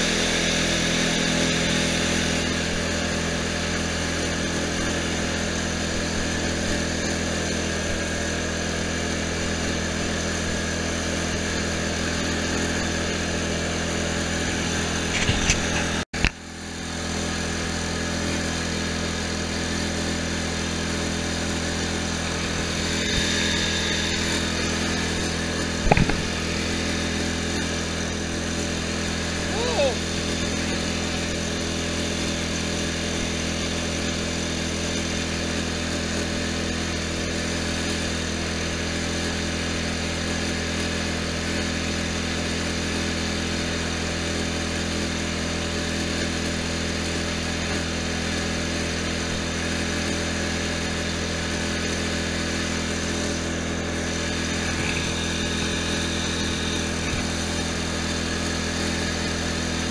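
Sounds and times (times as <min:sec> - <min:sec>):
lawn tractor engine droning: 0:00.0 - 0:59.9.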